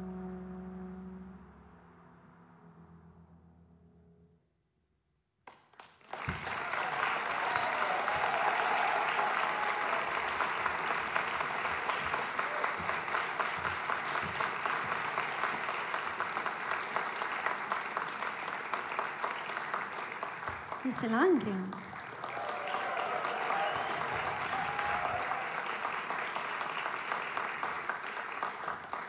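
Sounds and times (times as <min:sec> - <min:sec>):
audience applauding: 0:05.5 - 0:29.0.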